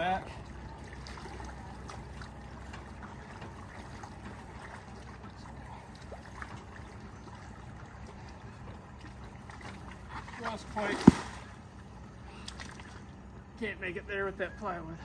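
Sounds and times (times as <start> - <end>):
small splashes: 0.0 - 13.2
water sloshing and trickling: 0.0 - 13.6.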